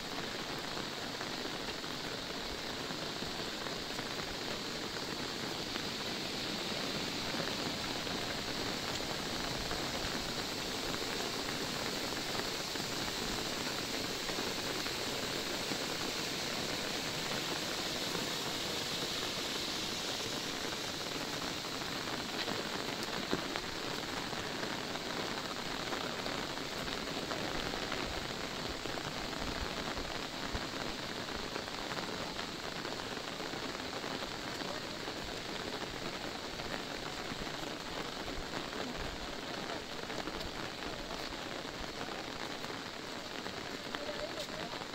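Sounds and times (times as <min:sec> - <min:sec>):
rain on an umbrella: 0:00.0 - 0:44.9
rain on wet road: 0:00.0 - 0:44.9.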